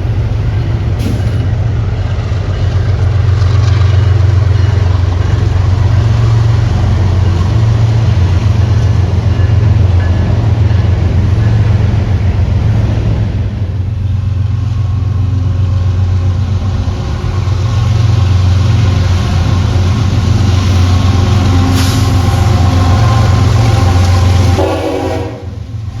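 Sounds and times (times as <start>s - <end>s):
locomotive engine rumbling: 0.0s - 26.0s.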